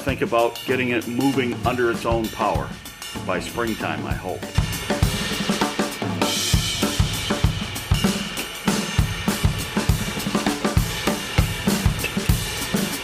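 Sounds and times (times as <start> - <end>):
rock drum beat: 0.0 - 13.0.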